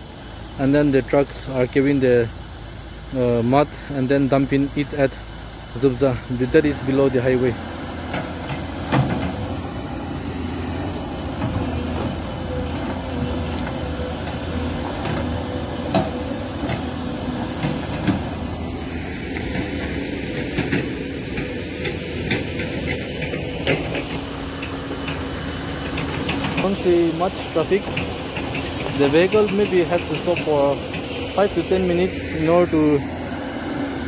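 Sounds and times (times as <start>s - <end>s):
heavy diesel machinery running: 0.0s - 34.0s.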